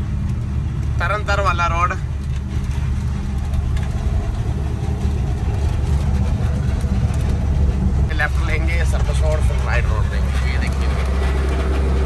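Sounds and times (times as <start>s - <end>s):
road noise: 0.0s - 12.0s
truck engine running: 0.0s - 12.0s.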